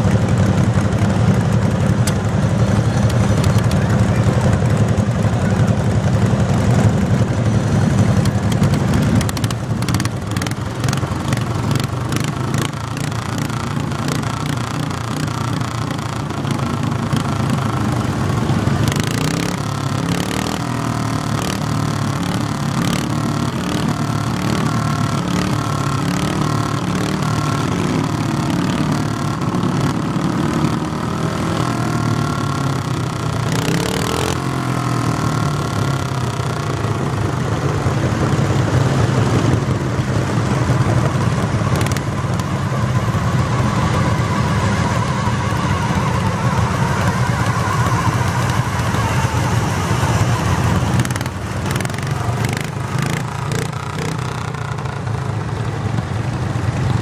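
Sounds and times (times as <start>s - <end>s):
garden tractor engine running: 0.0s - 57.0s.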